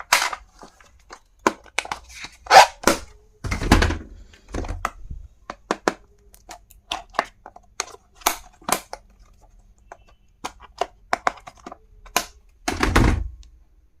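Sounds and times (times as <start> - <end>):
plastic items clicking and knocking: 0.0 - 13.5.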